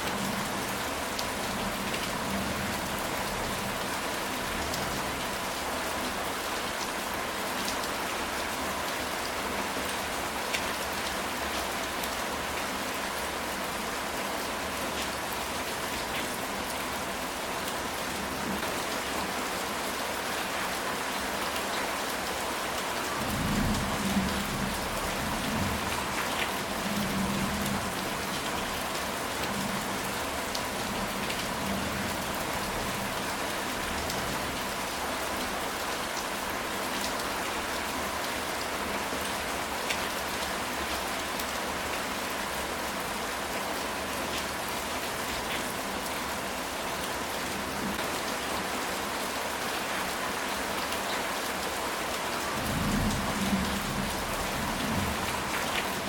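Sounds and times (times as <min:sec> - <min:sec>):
rain on a tile roof: 0:00.0 - 0:56.0.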